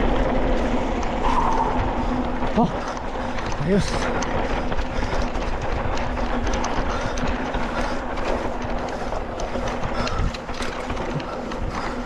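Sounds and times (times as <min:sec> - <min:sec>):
bike rattling clicks: 0:00.0 - 0:12.0
tyre and wind rush: 0:00.0 - 0:12.0.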